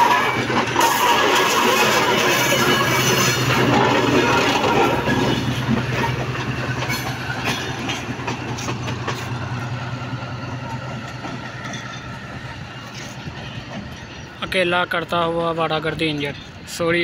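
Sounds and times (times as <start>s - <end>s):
locomotive engine drone: 0.0s - 14.4s
wheels clicking over rail joints: 0.0s - 16.6s.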